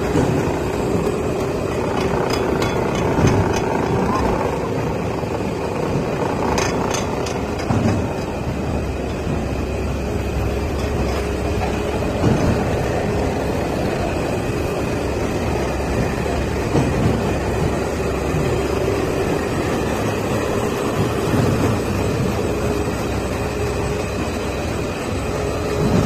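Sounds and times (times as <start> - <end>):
machine rumble: 0.0 - 26.0.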